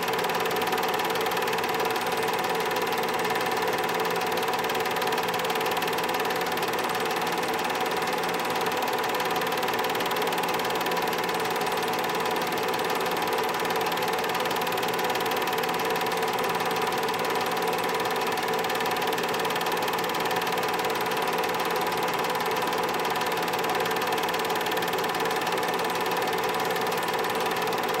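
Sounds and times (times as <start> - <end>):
film projector whirring: 0.0 - 28.0.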